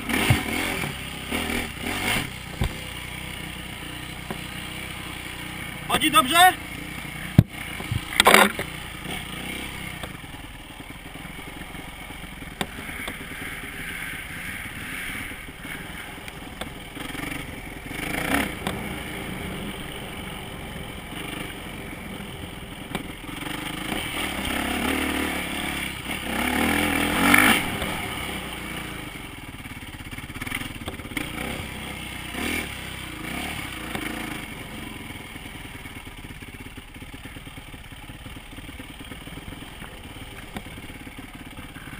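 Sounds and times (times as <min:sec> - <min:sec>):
dirt bike engine revving: 0:00.0 - 0:29.4, 0:30.4 - 0:36.0.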